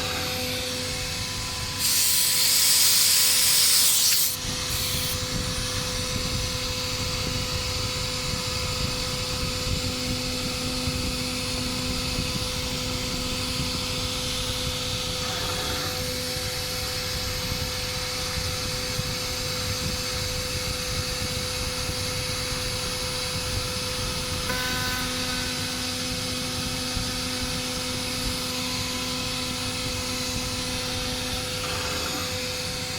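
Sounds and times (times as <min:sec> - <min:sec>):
cnc router running: 0:00.0 - 0:32.9.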